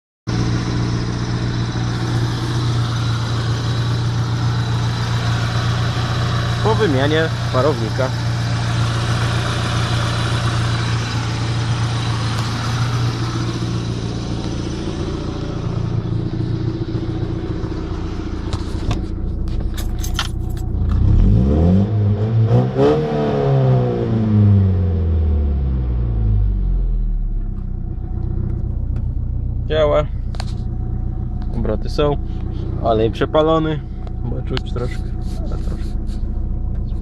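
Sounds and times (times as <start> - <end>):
car engine idling: 0.3 - 21.4, 24.7 - 37.0
car engine revving: 0.3 - 37.0.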